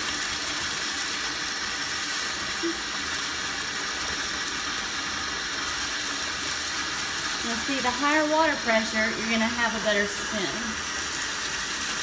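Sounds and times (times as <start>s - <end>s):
faucet water pouring into bath: 0.0s - 12.0s.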